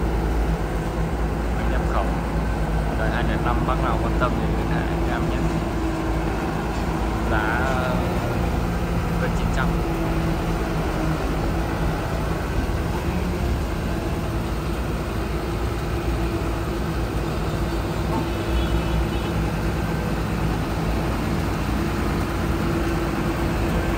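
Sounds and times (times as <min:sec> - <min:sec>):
diesel engine droning: 0:00.0 - 0:23.9.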